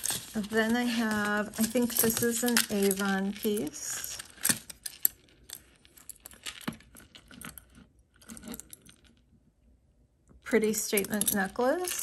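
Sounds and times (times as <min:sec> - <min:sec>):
jewelry box clicks and rattles: 0:00.0 - 0:09.2, 0:10.6 - 0:12.0.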